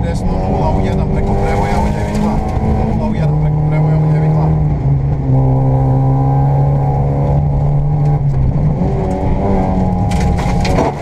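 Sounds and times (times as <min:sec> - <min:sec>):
rally car engine from cabin: 0:00.0 - 0:11.0.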